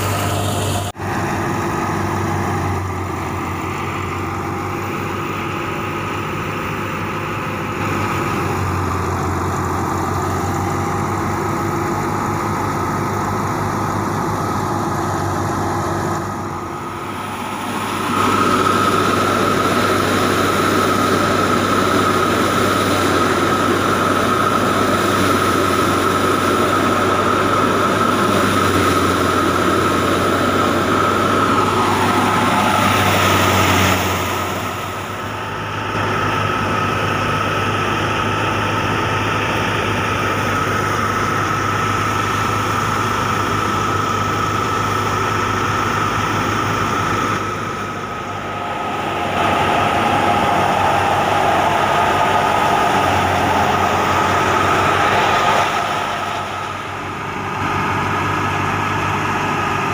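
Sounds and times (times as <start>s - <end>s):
high machine whine: 0.0s - 59.9s
thresher and diesel engine drone: 0.0s - 59.9s.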